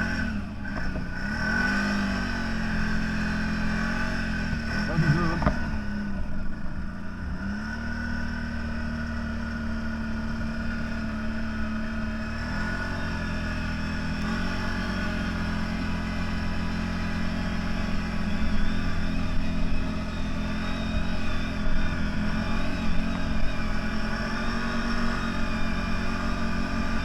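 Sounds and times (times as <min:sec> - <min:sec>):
off-road vehicle engine running: 0:00.0 - 0:27.0.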